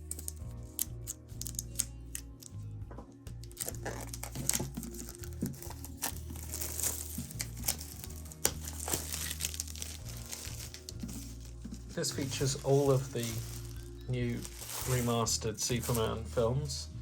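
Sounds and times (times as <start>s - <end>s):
packaging crinkling: 0.0s - 2.6s, 3.4s - 16.4s
quiet background music: 0.0s - 17.0s.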